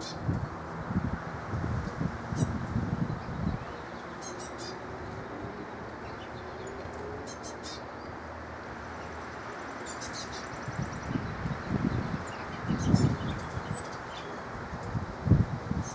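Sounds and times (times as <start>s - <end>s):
low outdoor background hum: 0.0s - 15.9s
songbirds chirping: 0.0s - 15.9s.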